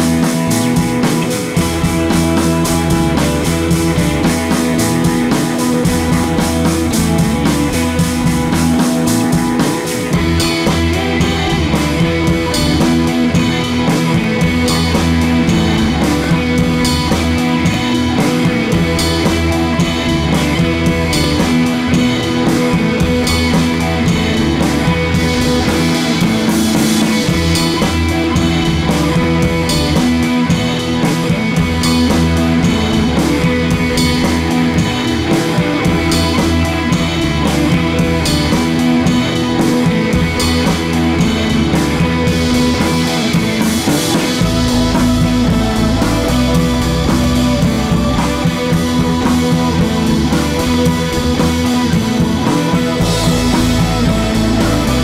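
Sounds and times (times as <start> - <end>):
rock music with guitar and drums: 0.0 - 55.0.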